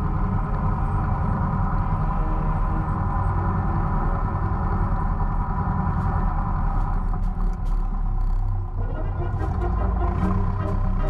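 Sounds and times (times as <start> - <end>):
loader engine running under load: 0.0 - 11.0.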